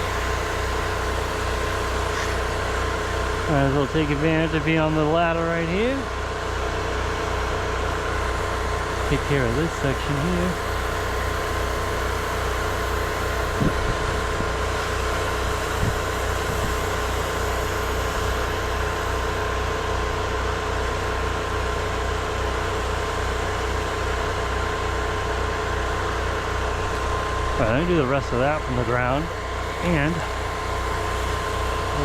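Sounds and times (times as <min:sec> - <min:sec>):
generator and pump engine hum: 0:00.0 - 0:32.0.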